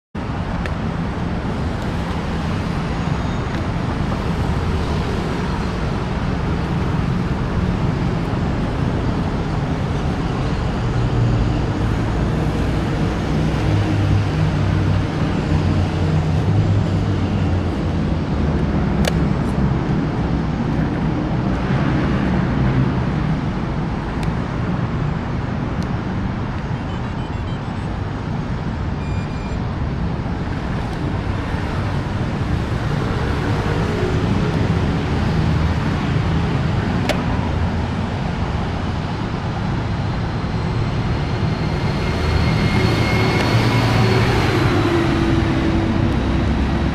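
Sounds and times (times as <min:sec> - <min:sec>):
low rumble of traffic: 0:00.2 - 0:46.9.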